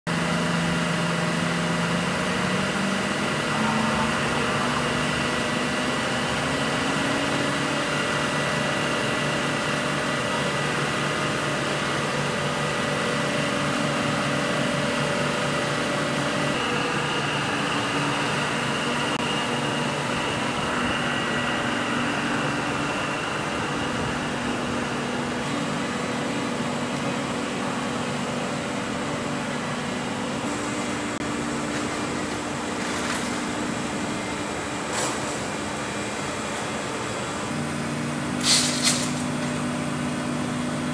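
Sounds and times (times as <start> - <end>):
tow tractor engine: 0.1 - 40.9.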